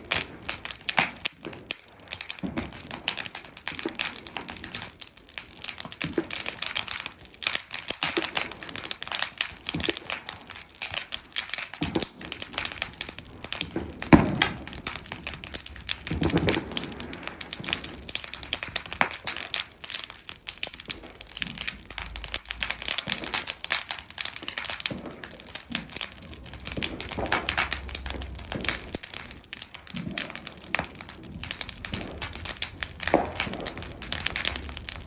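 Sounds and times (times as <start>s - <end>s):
bonfire crackling and popping: 0.0s - 35.0s.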